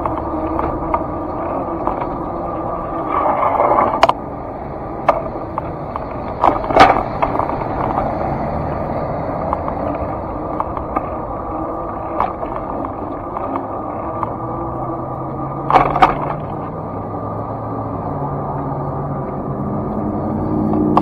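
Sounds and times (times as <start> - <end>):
street traffic passing: 0.0 - 21.0
wheels rolling on concrete: 0.0 - 21.0.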